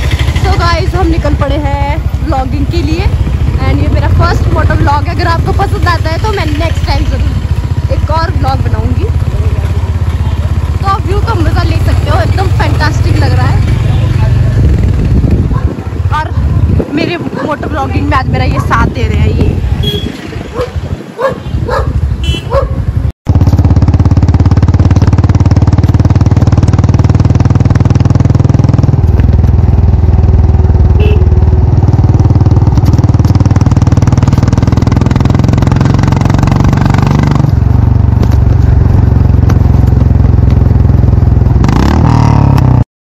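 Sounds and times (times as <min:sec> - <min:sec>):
motorcycle engine running: 0:00.0 - 0:42.8.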